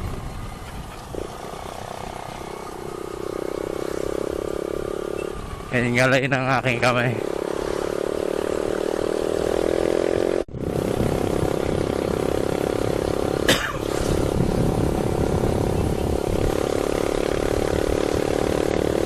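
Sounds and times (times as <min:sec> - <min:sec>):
motorcycle engine cruising: 0:00.0 - 0:19.0
road and wind noise: 0:00.0 - 0:19.0.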